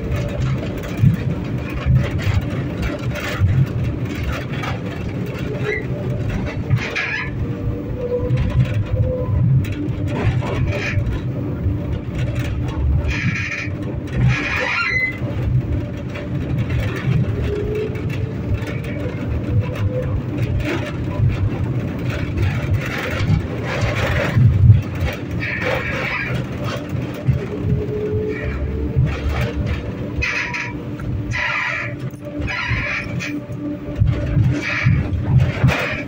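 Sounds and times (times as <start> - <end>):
tram running gear rumble: 0.0 - 36.0.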